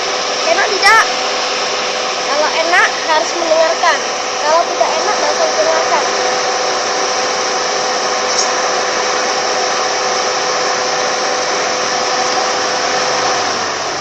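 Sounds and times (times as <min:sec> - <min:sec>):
car air conditioning blower: 0:00.0 - 0:14.0.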